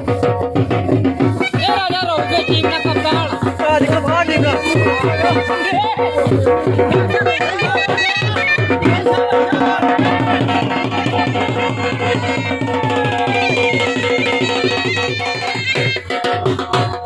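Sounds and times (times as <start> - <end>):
dhol drum beating: 0.0 - 17.0
reed wind instrument melody: 1.1 - 16.6.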